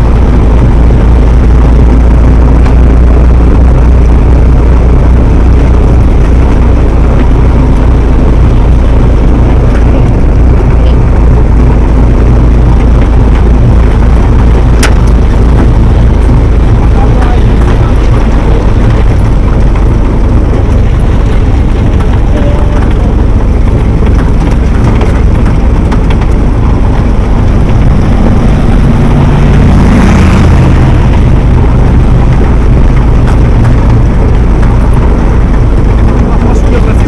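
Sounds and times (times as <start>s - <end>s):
jeep engine running: 0.0s - 37.0s
low rumble of wind and road: 0.0s - 37.0s.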